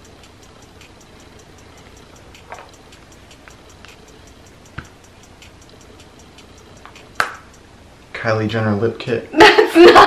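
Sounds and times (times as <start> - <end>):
fast even ticking: 0.0 - 8.1.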